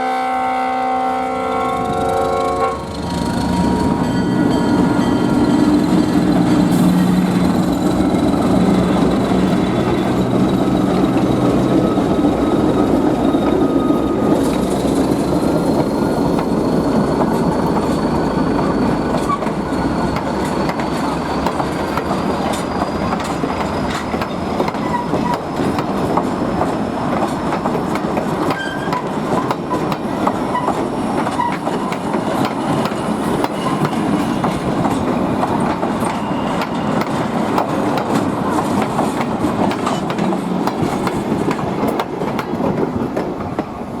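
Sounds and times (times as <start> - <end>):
high squeal of wheel on rail: 0.0 - 42.8
locomotive engine hum: 0.9 - 44.0
train wheels clicking over rail joints: 2.8 - 44.0.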